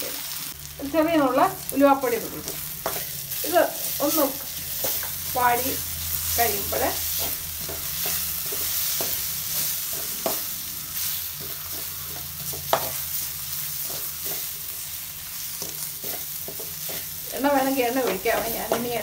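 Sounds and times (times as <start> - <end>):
frying sizzle: 0.0 - 19.0
metal spoon scraping wok: 2.1 - 19.0.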